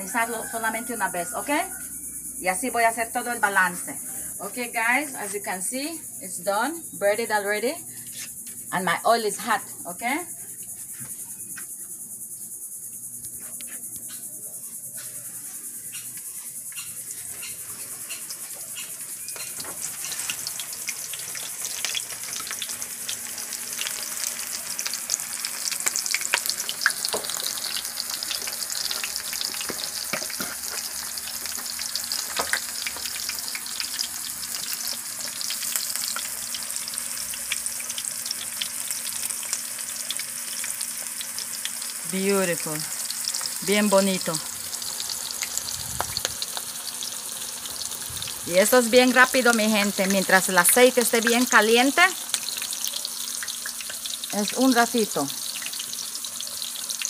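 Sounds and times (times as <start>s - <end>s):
shrimp deep-frying in hot oil: 0.0s - 5.9s, 16.7s - 57.0s.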